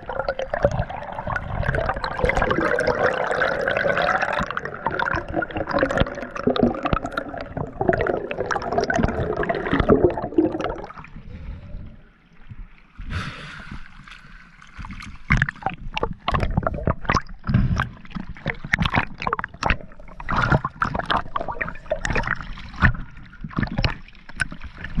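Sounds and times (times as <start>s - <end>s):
water gurgling and sloshing: 0.0s - 25.0s.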